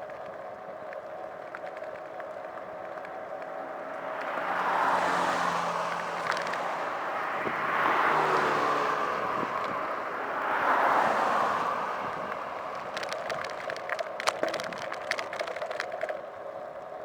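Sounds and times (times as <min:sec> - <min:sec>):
road and traffic noise: 0:00.0 - 0:17.0
vehicles passing: 0:00.0 - 0:17.0
wind: 0:00.0 - 0:17.0.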